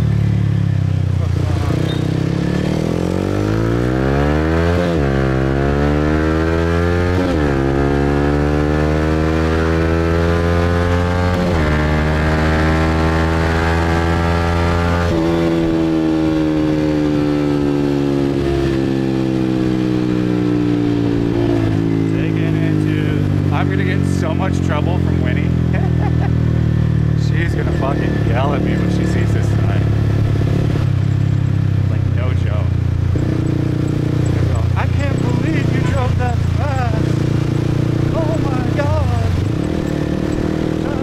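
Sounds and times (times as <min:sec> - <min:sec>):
motorbike engine accelerating: 0:00.0 - 0:41.0.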